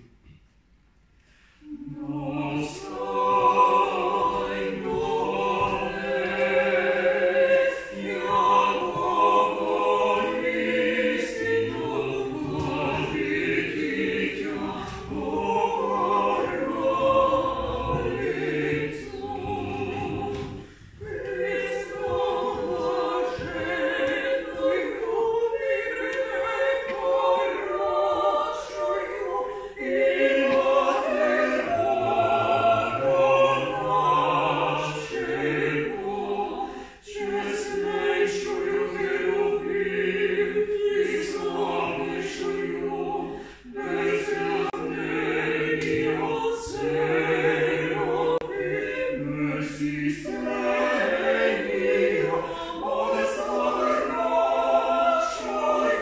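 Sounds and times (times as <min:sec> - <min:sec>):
vocal group singing a cappella: 0:01.1 - 0:56.0.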